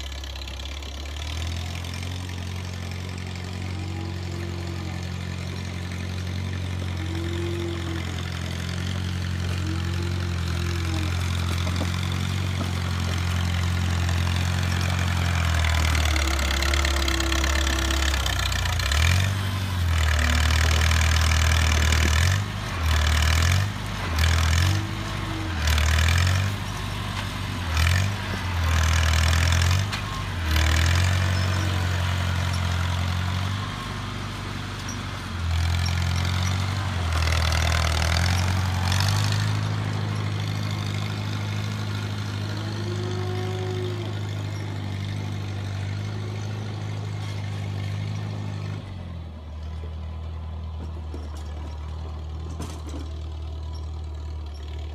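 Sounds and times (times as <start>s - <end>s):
tractor engine surging: 0.0s - 54.9s.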